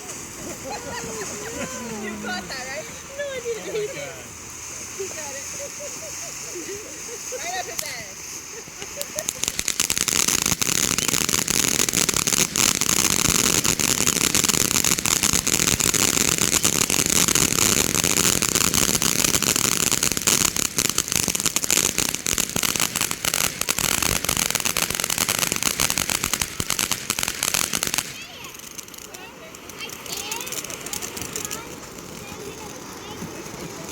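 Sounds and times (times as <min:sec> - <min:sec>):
fireworks crackling pops: 0:00.0 - 0:33.9
fireworks hiss: 0:00.0 - 0:33.9.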